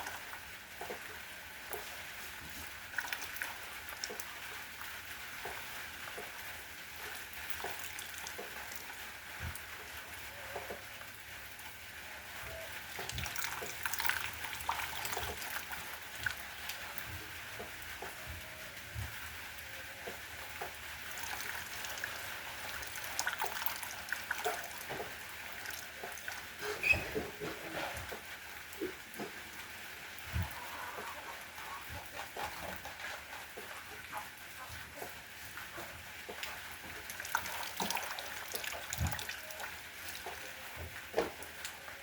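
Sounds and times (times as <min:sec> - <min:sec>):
drops pattering and dripping: 0:00.0 - 0:42.0.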